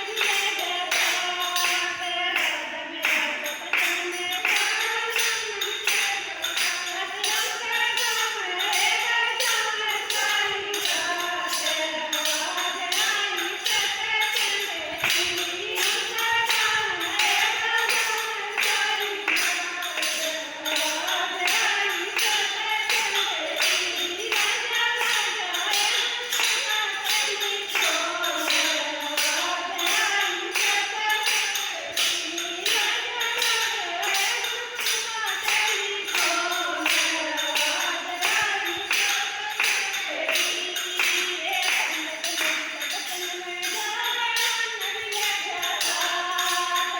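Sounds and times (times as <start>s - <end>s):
tambourine jingling: 0.0s - 46.9s
voices singing devotional song: 0.0s - 46.9s.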